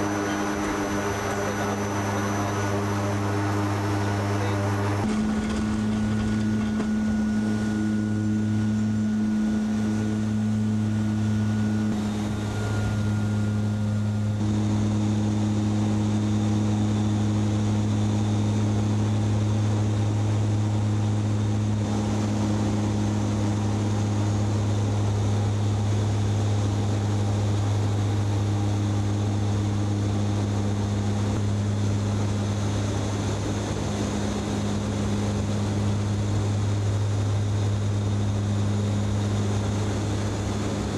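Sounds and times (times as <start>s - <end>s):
propeller engines droning: 0.0s - 40.9s.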